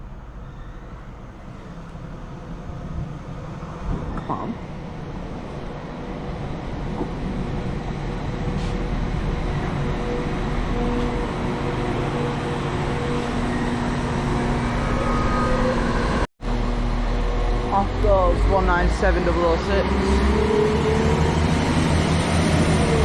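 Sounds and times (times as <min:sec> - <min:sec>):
diesel train engines running: 0:01.0 - 0:23.0.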